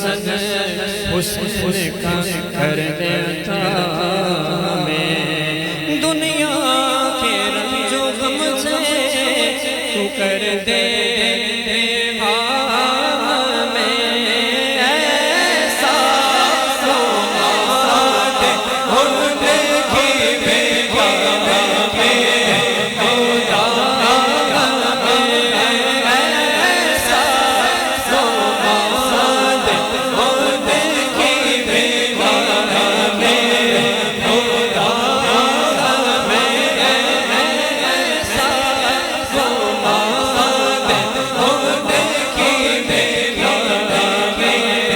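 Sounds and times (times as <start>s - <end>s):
person chanting unaccompanied: 0.0s - 44.9s.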